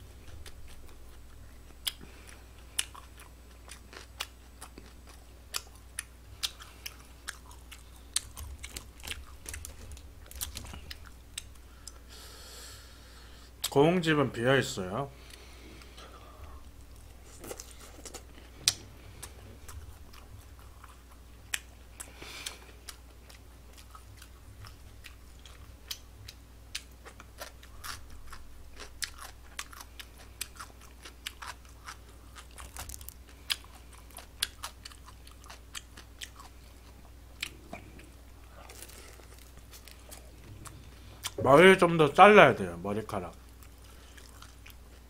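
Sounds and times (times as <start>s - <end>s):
crisp chewing crunches: 0.2s - 12.0s, 15.3s - 41.4s, 43.3s - 45.0s.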